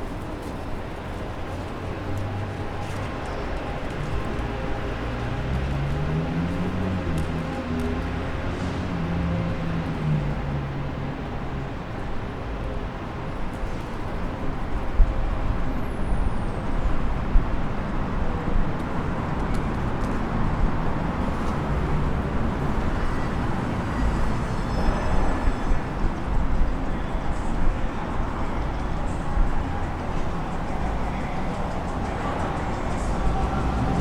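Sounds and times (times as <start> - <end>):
busy street noise: 0.0 - 34.0
cars and buses passing: 0.0 - 34.0.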